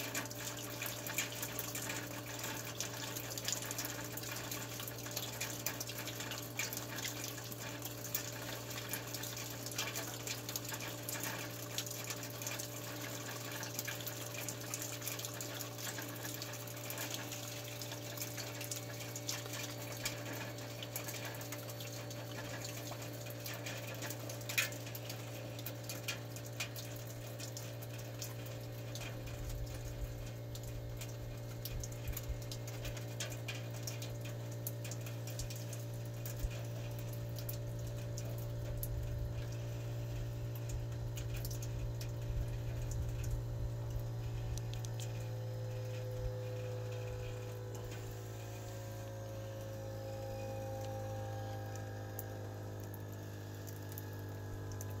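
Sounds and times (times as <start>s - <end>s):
heat pump low hum: 0.0s - 55.0s
meltwater trickling and dripping: 0.0s - 55.0s.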